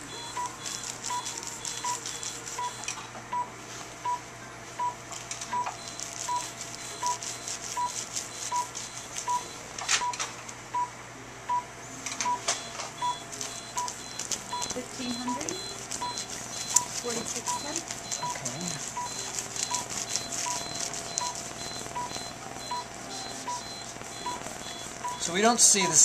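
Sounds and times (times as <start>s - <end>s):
laser console beeping: 0.0s - 3.5s, 4.8s - 10.2s, 11.5s - 26.0s.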